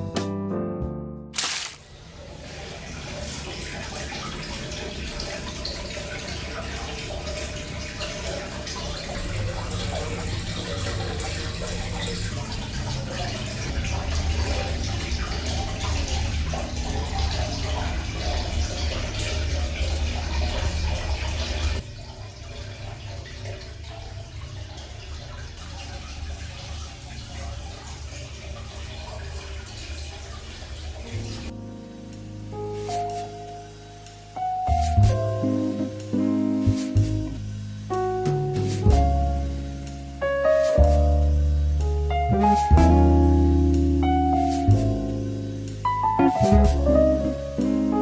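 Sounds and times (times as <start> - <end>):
tap water running into bath: 1.4 - 48.0.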